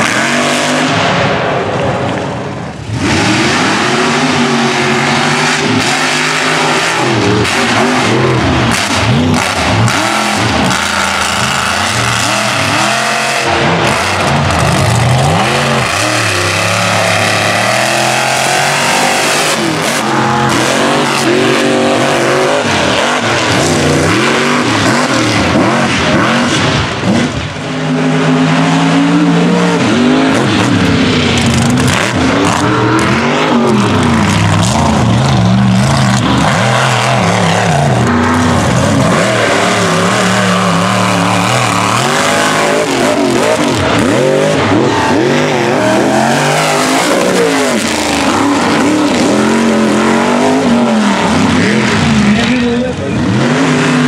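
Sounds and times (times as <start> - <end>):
truck engines revving: 0.0 - 54.0.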